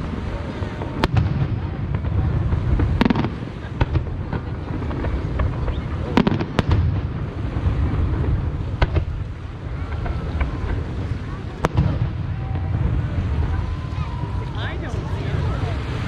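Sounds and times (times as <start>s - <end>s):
low rumble of booming shells: 0.0s - 14.6s
fireworks sharp cracks: 0.0s - 16.0s.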